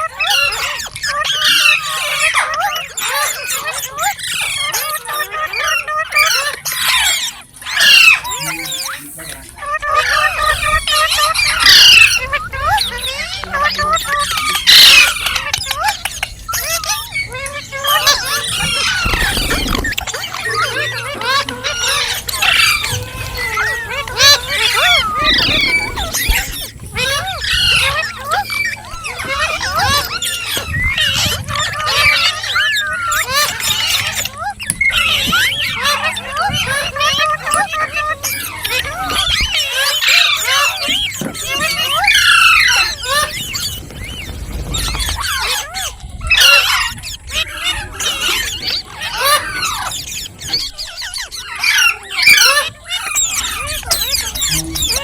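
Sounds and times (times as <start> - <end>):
parrots chirping and squawking: 0.0 - 55.0.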